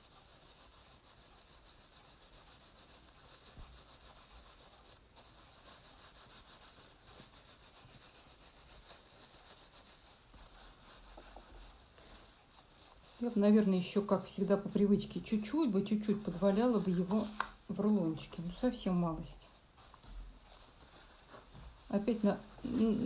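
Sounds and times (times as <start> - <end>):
hands rubbing wet wool: 0.0 - 23.0.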